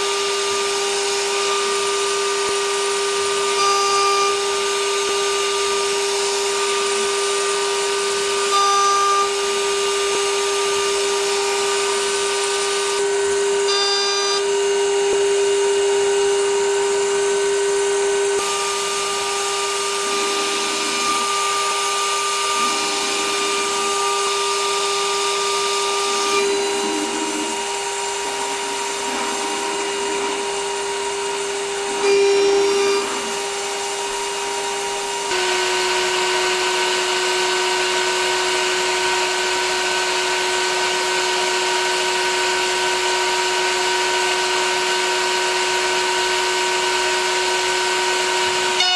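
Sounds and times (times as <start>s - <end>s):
end mill cutting aluminium: 0.0s - 48.9s
router spindle high whine: 0.0s - 48.9s.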